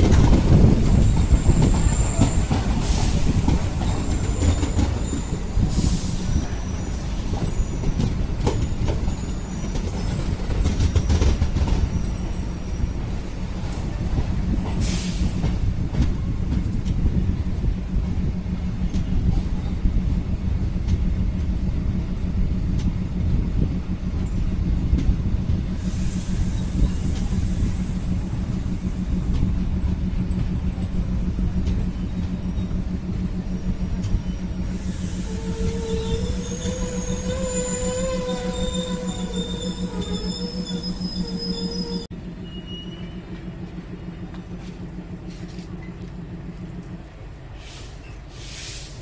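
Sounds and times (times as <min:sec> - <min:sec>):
train rolling rumble: 0:00.0 - 0:49.0.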